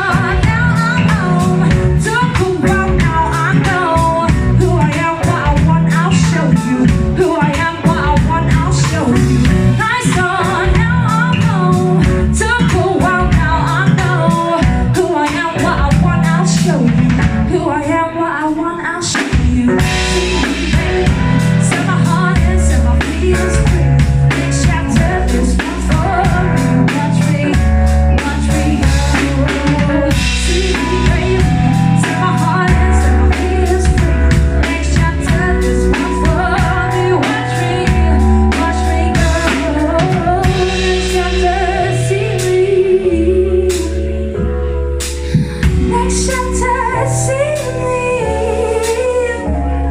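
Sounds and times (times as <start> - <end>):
drum kit beat: 0.0 - 17.9, 18.5 - 49.6
woman singing: 0.0 - 44.4, 45.1 - 49.9
bass guitar: 0.0 - 49.9
guitar: 0.0 - 49.9.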